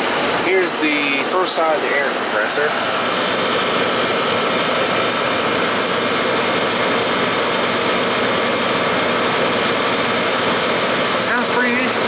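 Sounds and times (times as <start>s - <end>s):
air conditioner compressor running: 0.0s - 12.0s.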